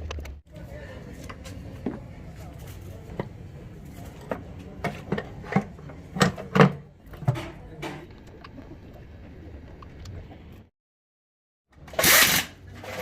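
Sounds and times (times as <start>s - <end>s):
workshop background noise: 0.0s - 10.7s, 11.7s - 13.0s.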